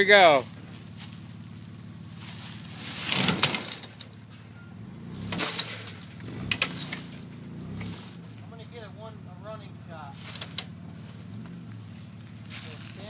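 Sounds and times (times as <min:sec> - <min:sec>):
fence scraping and crackling: 0:00.0 - 0:08.8, 0:10.0 - 0:13.0.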